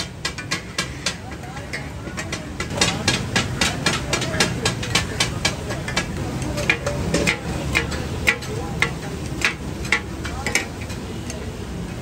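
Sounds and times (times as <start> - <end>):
spatulas clanking on a griddle: 0.0 - 11.6.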